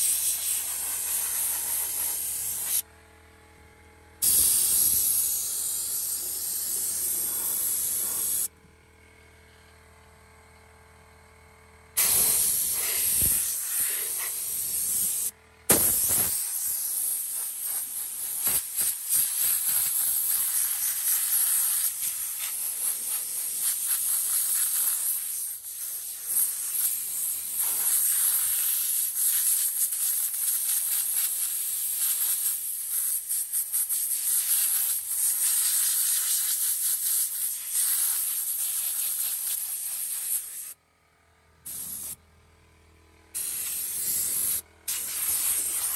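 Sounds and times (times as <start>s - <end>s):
compressed air hissing from blow gun: 0.0s - 2.8s, 4.2s - 8.5s, 12.0s - 40.8s, 41.7s - 42.2s, 43.4s - 45.9s.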